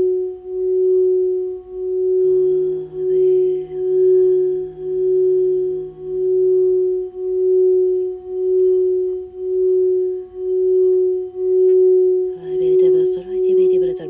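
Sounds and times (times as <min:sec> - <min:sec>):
fainter lower bowl tone: 0:00.0 - 0:14.0
singing bowl sustained tone: 0:00.0 - 0:14.0.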